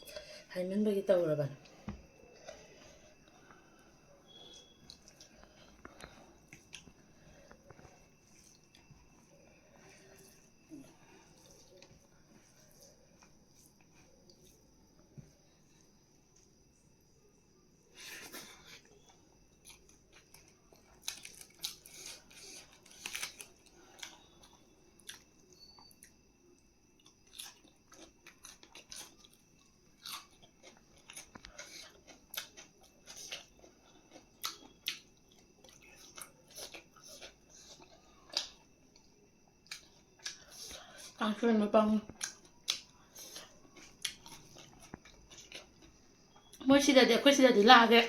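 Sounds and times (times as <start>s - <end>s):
person chewing food: 1.6s - 16.7s, 18.2s - 41.2s, 42.1s - 46.6s.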